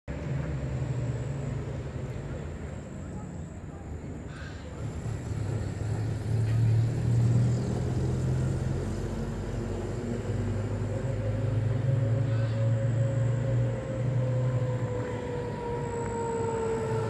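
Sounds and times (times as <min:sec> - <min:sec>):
engine running: 0:00.1 - 0:17.0.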